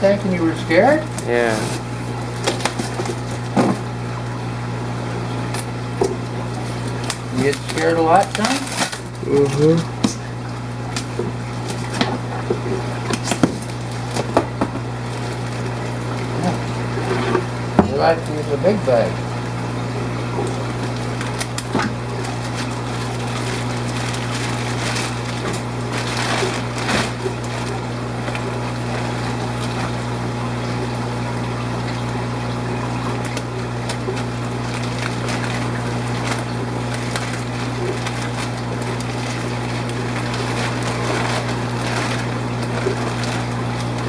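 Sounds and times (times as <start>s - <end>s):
aquarium pumps humming: 0.0s - 44.0s
running water rushing: 0.0s - 44.0s.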